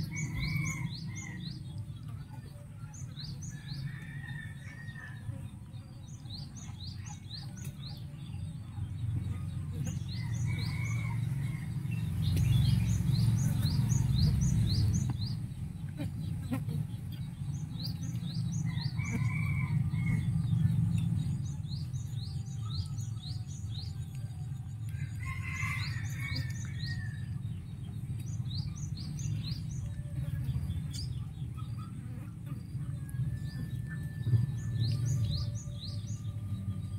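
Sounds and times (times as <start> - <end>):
low outdoor rumble: 0.0 - 36.9
small birds chirping: 0.0 - 36.9.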